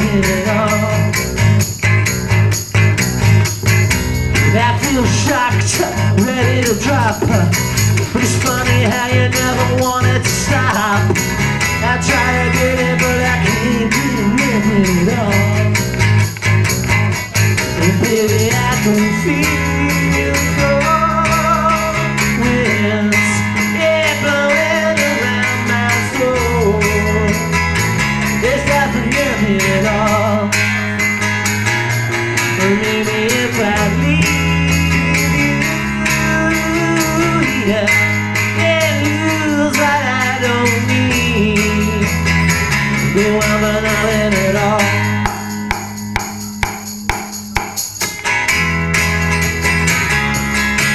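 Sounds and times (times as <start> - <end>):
bass guitar line: 0.0 - 50.9
jingling percussion: 0.0 - 50.9
strummed acoustic guitars: 0.0 - 50.9.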